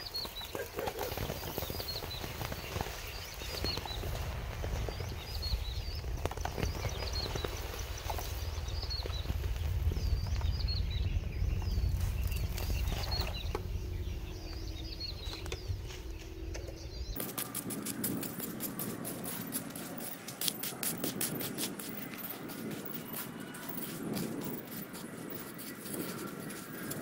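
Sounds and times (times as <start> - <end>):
small birds chirping: 0.0 - 27.0
wind rumbling on microphone: 0.0 - 27.0.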